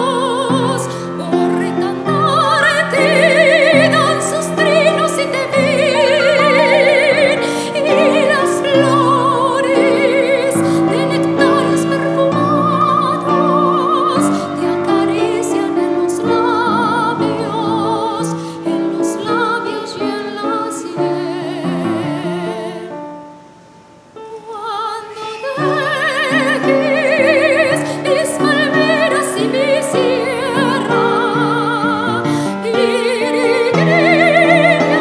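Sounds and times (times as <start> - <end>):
piano accompaniment: 0.0 - 35.0
soprano singing: 0.0 - 35.0.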